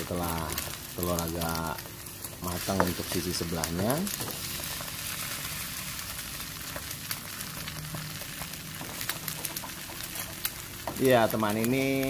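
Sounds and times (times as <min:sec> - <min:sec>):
egg sizzling in oil: 0:00.0 - 0:12.0.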